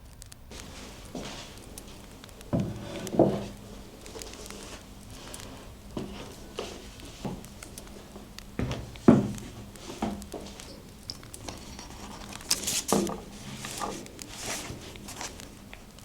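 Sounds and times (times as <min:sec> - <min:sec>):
paper rustling: 0:00.5 - 0:16.0.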